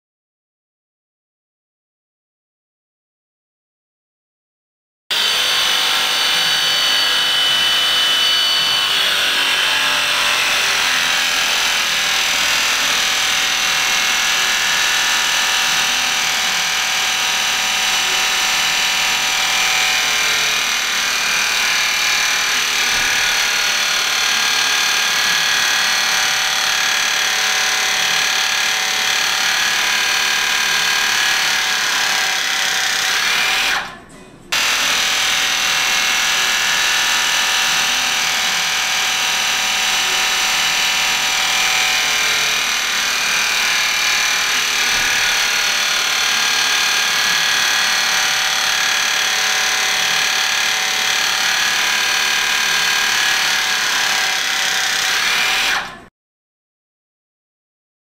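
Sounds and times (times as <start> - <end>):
power tool whining: 5.1 - 56.1.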